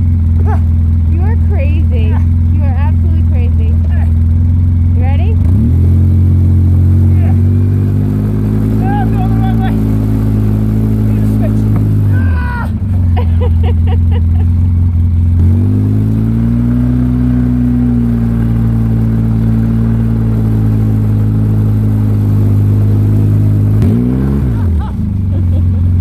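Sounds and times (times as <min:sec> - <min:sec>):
vehicle engine idling and revving: 0:00.0 - 0:26.0.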